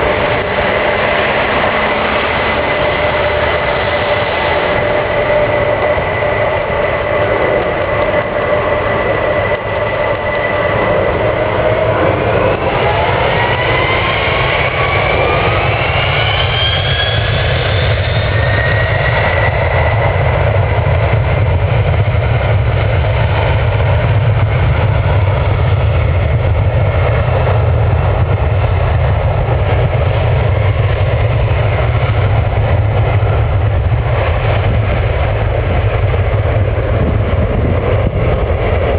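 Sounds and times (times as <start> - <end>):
jet engines spooling up: 0.0 - 38.9.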